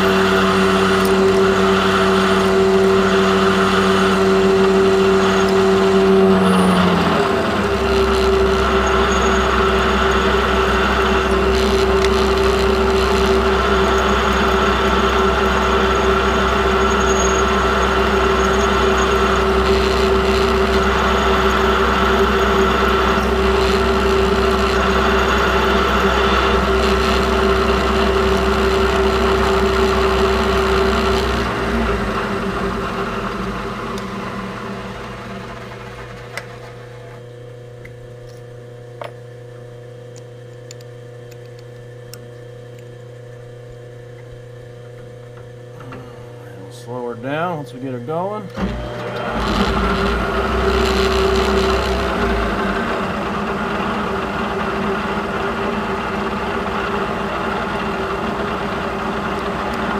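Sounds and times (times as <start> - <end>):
milling machine spindle running: 0.0 - 39.2, 40.1 - 59.9
low hum: 0.0 - 59.9.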